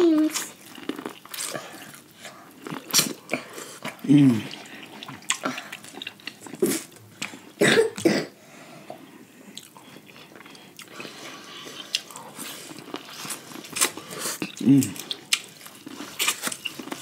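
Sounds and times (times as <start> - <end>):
people chewing and biting: 0.0 - 8.0, 8.8 - 17.0.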